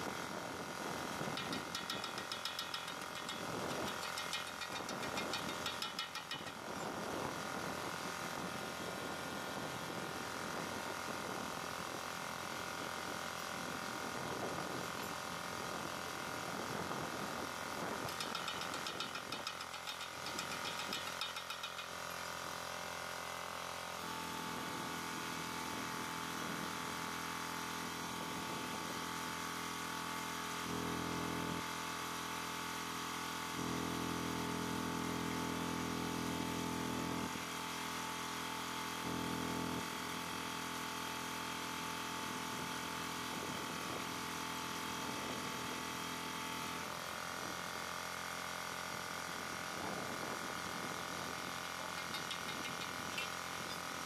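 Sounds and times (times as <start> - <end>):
electric machine hum with whine: 0.0 - 54.0.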